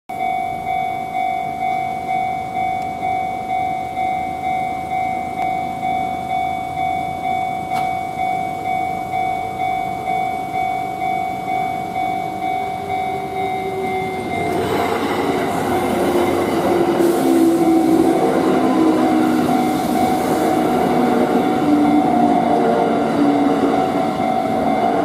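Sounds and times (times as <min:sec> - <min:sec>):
level-crossing warning bell: 0:00.1 - 0:25.0
train rumbling: 0:00.2 - 0:25.0.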